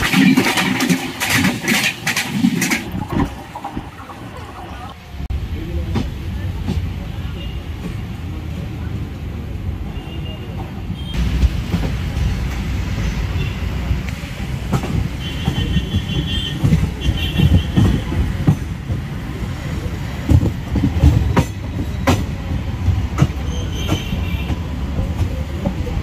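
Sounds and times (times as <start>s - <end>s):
train wheels rumbling on track: 0.0s - 4.3s, 5.2s - 26.0s.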